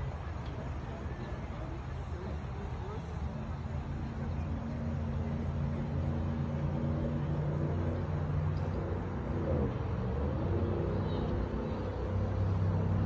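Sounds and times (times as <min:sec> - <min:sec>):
low motor drone: 0:00.0 - 0:13.0.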